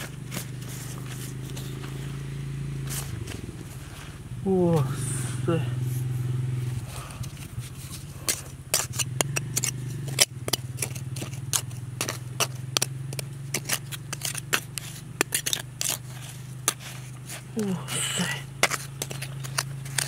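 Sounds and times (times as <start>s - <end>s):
hand tool scraping soil: 0.0s - 2.2s, 2.8s - 4.2s, 6.7s - 20.0s
steady low hum: 0.0s - 20.0s.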